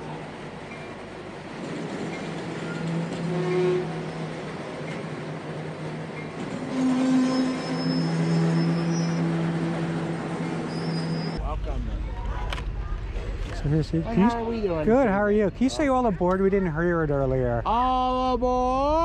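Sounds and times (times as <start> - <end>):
idling locomotive hum: 0.0 - 19.0.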